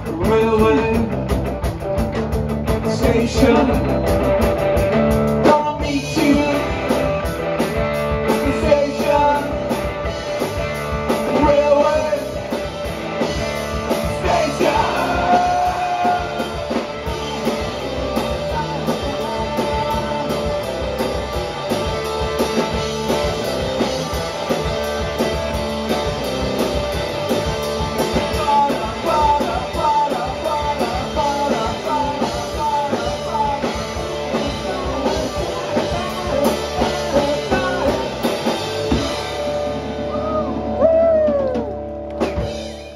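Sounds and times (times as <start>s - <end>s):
drum kit: 0.0s - 42.9s
electric bass: 0.0s - 42.9s
electric guitar: 0.0s - 42.9s.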